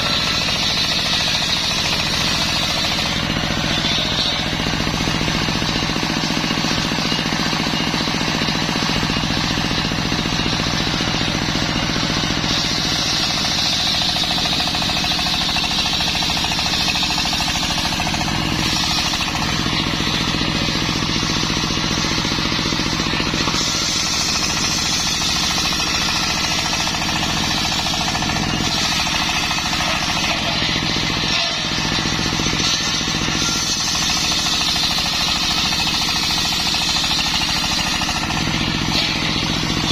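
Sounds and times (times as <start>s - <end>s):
circular saw mechanical chatter: 0.0s - 39.9s
saw blade cutting wood: 0.0s - 39.9s.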